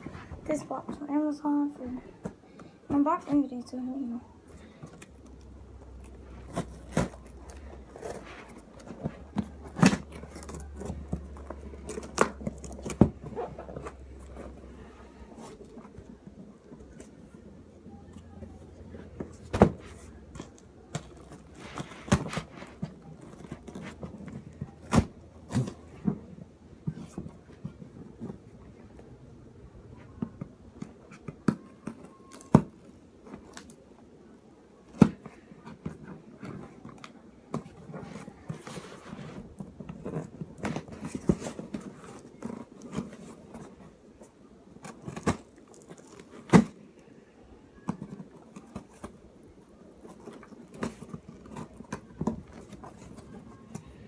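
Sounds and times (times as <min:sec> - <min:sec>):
packaging rustling and scraping: 0:04.4 - 0:29.1, 0:30.0 - 0:47.1, 0:47.7 - 0:54.0.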